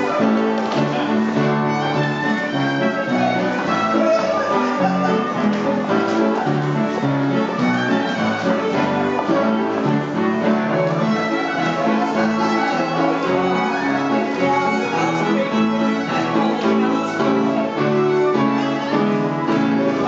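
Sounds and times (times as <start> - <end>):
fiddle dance tune: 0.0 - 20.0.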